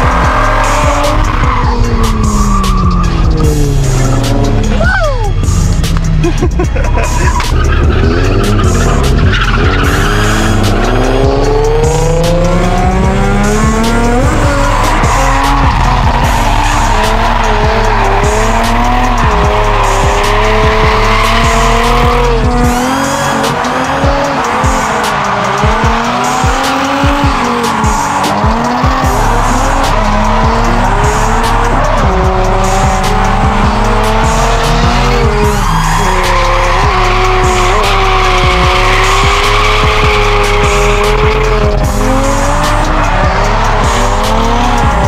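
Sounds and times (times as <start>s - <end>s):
car engines at high revs: 0.0s - 45.0s
tyres squealing: 7.1s - 45.0s.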